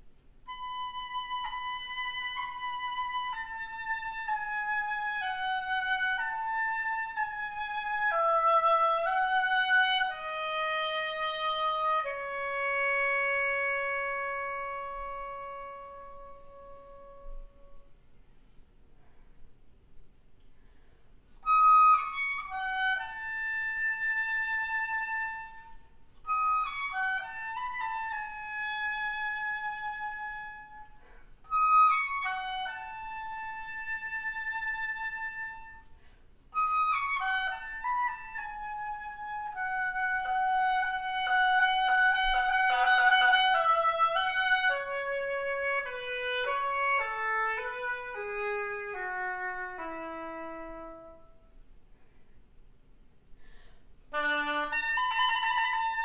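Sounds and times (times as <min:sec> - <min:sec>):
solo oboe playing: 0:00.4 - 0:18.2, 0:21.4 - 0:51.7, 0:54.1 - 0:56.0.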